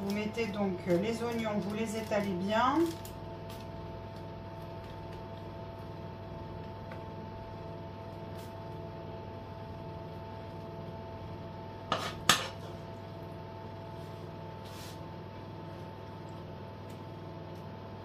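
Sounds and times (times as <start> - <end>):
kitchen hum with tones: 0.0 - 18.0.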